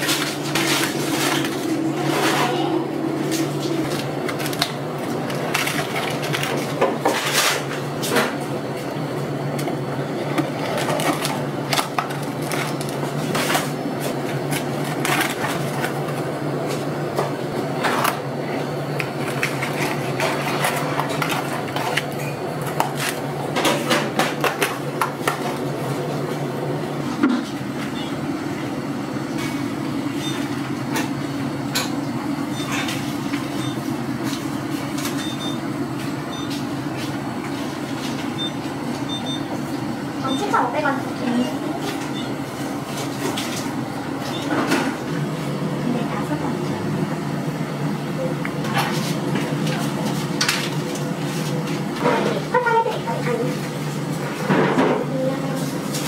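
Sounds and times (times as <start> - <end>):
shop background hum: 0.0 - 56.0.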